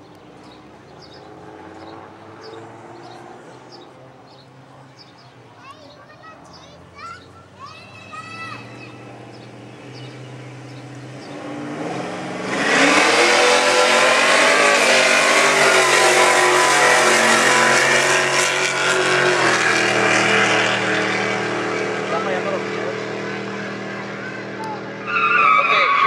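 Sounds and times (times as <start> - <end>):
drag racing cars at full throttle: 0.0 - 26.0.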